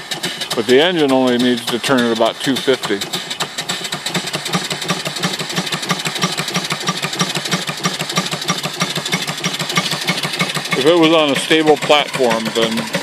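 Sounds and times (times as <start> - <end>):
steam engine exhaust chuffing: 0.0 - 13.0.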